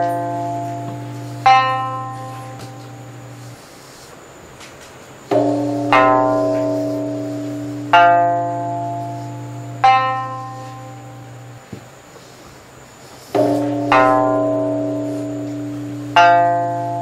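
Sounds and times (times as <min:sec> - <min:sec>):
sanshin notes plucked: 0:00.0 - 0:03.6, 0:05.3 - 0:11.7, 0:13.4 - 0:17.0
temple bell resonance hum: 0:00.0 - 0:03.7, 0:05.3 - 0:17.0.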